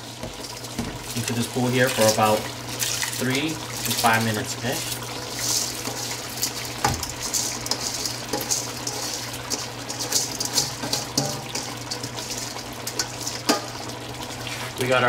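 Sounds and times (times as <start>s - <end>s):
rice poured into boiling water: 0.0s - 15.0s.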